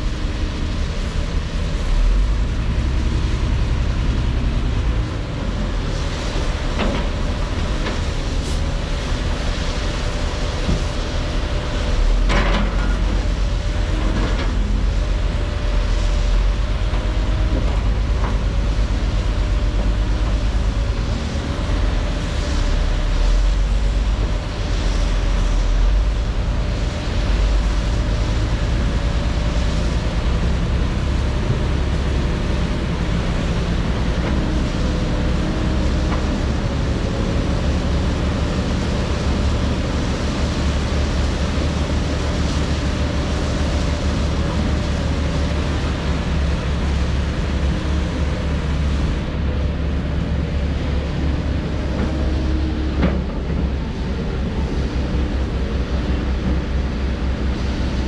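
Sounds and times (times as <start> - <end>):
diesel construction machinery: 0.0 - 58.0.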